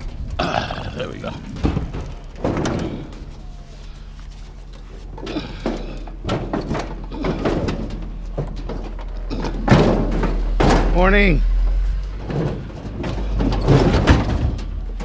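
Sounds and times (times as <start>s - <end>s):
steady low hum: 0.0s - 15.0s
scrap metal knocking and clattering: 1.2s - 15.0s.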